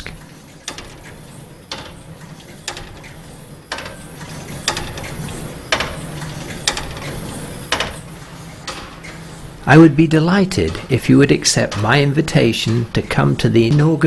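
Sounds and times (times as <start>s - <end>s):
clock ticking: 0.0s - 14.0s
steady low hum: 0.0s - 14.0s.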